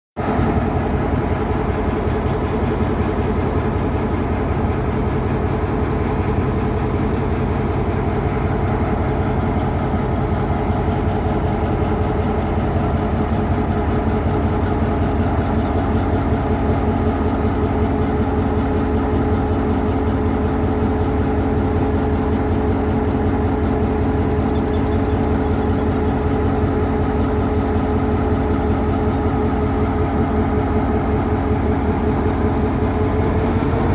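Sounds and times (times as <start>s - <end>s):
diesel locomotive engine idling: 0.2s - 33.9s.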